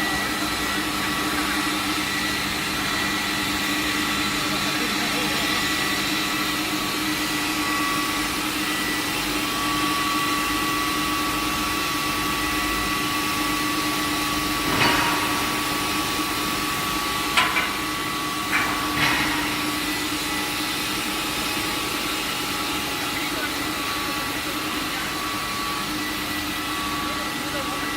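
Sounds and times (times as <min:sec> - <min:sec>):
industrial machinery hum: 0:00.0 - 0:27.9.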